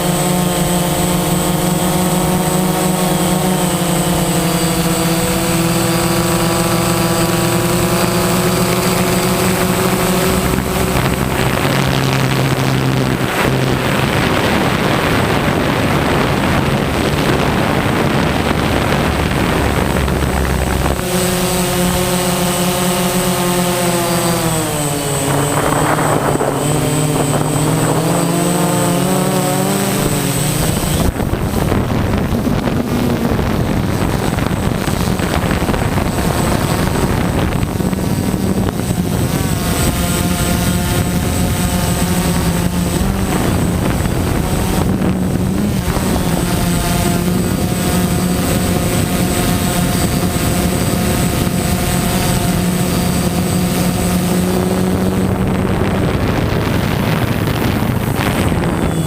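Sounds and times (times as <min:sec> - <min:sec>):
drone propellers buzzing: 0:00.0 - 0:59.0.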